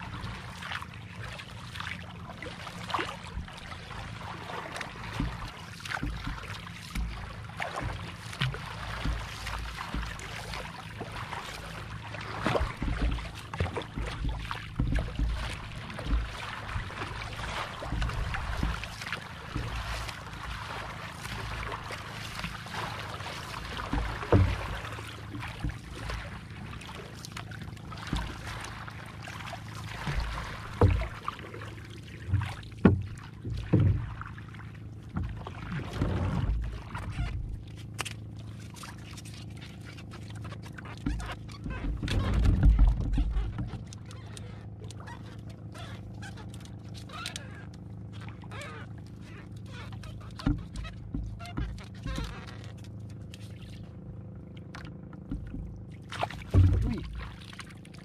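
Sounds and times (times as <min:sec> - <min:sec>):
paddle splashing water: 0:00.0 - 0:58.0
knocks against boat: 0:03.0 - 0:03.8, 0:04.7 - 0:53.9, 0:54.6 - 0:58.0.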